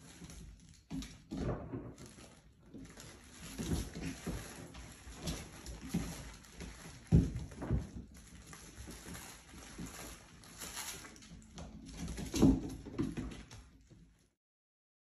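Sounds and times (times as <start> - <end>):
puppies scuffling on hard floor: 0.0 - 14.3.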